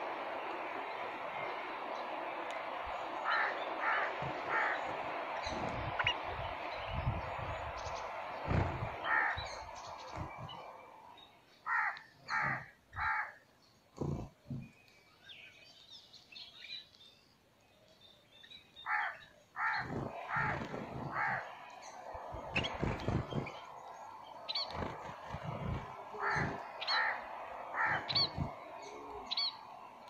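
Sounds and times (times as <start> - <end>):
loud bird calls: 0.0 - 14.8, 18.5 - 30.0
birds chirping: 0.0 - 30.0.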